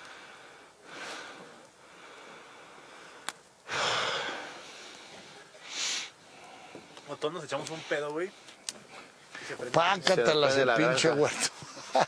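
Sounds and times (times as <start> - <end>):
air blown onto campfire: 0.0 - 12.0.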